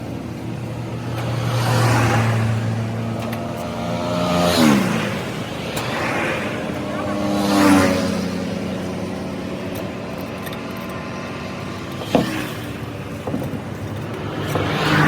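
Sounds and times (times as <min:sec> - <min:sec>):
steady engine drone: 0:00.0 - 0:15.0
vehicle passing close by: 0:00.0 - 0:15.0.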